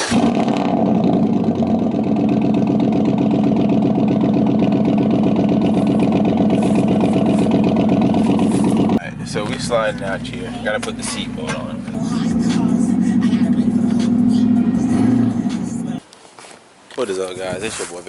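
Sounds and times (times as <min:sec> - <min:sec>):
vehicle engine idling: 0:00.1 - 0:16.0.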